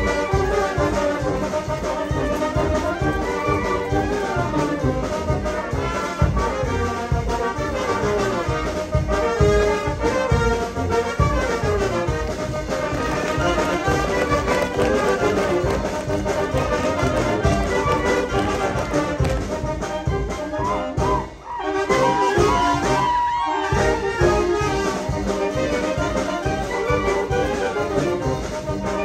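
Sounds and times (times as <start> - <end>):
brass band playing dance music: 0.0 - 29.0.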